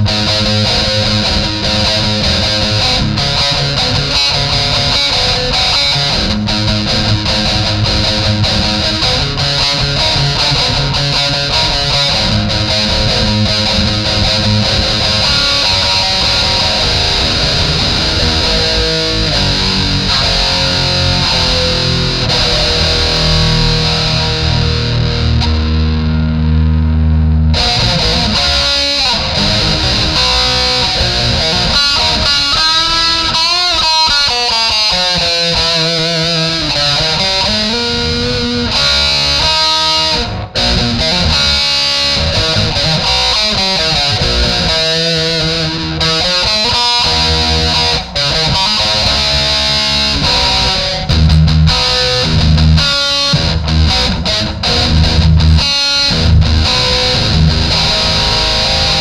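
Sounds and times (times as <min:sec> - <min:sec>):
distorted electric guitar: 0:00.0 - 0:59.0.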